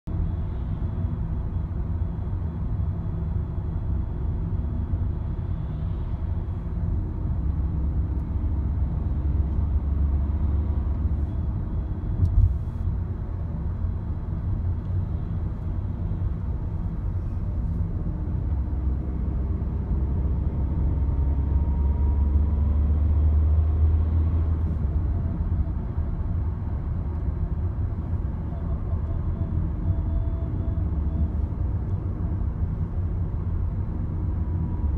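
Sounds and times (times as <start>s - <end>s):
car engine droning: 0.1s - 34.9s.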